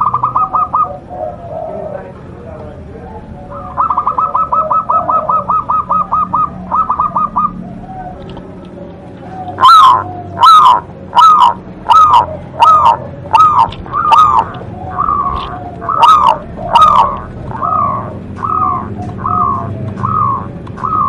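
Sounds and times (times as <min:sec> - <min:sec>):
dove cooing: 0:00.0 - 0:21.0
dove soft notes: 0:00.0 - 0:21.0.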